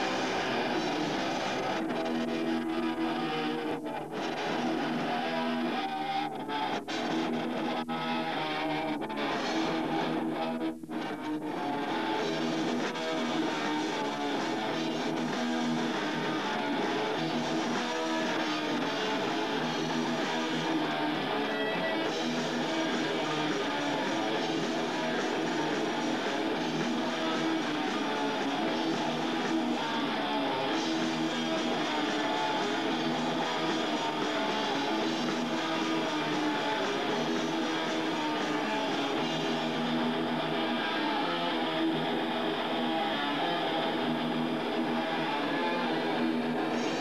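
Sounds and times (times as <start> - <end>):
electric guitar: 0.0 - 47.0
hardcore punk band playing: 0.0 - 47.0.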